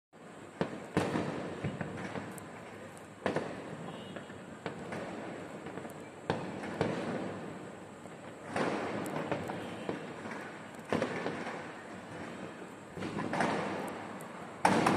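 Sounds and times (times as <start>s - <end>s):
fireworks crackling: 0.2s - 14.9s
fireworks bangs with echo: 0.5s - 14.9s.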